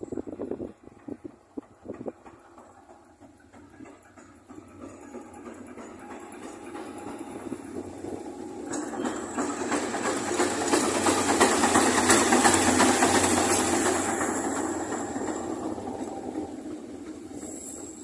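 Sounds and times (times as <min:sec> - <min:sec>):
diesel locomotive passing: 0:00.0 - 0:18.0
train wheels rattling on rails: 0:00.0 - 0:18.0.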